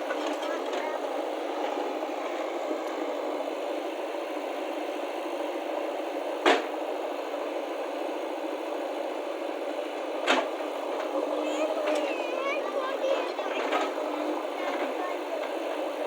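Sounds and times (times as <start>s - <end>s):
motor running steadily: 0.0s - 16.0s.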